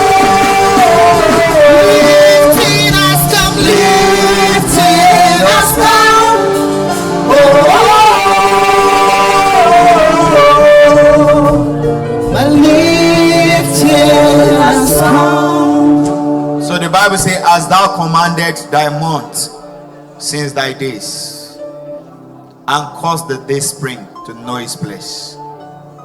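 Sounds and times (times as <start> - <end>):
instrumental backing music: 0.0 - 26.0.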